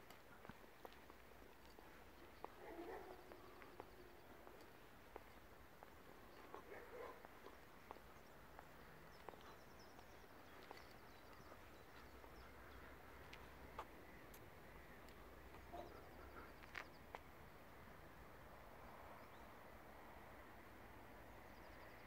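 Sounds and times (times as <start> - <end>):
distant birds chirping: 0.0 - 18.0.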